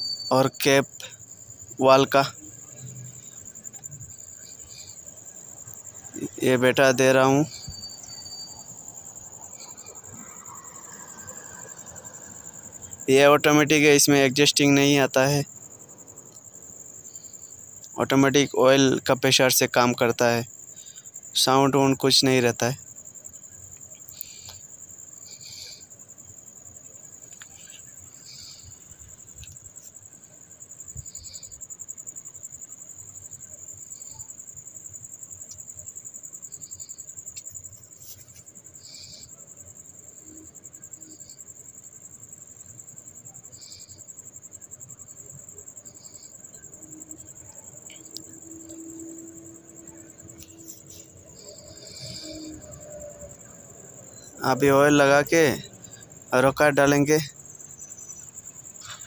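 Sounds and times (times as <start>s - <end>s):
insects trilling: 0.0s - 59.0s
short insect chirp: 0.0s - 59.0s.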